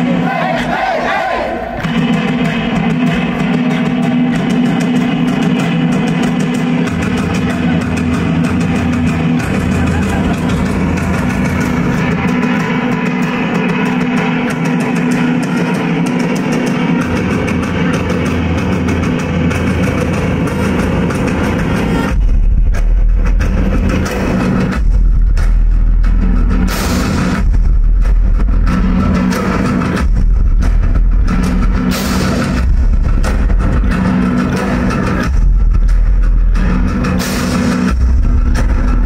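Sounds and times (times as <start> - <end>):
steady drumming: 0.0 - 39.0
deep bass line: 1.6 - 39.0.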